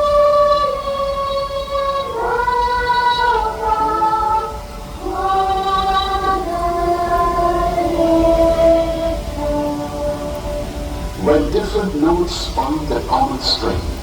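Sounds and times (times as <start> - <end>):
wordless choir-like voices: 0.0 - 14.0.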